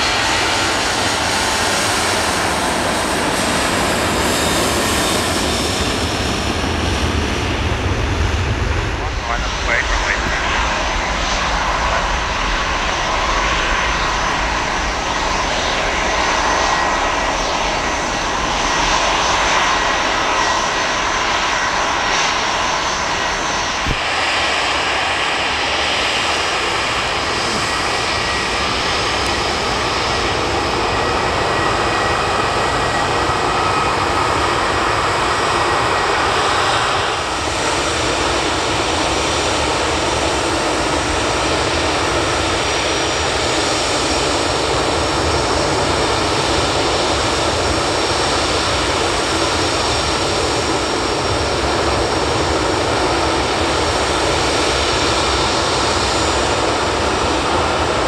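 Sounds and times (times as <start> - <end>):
jet engines running loud: 0.0 - 58.0.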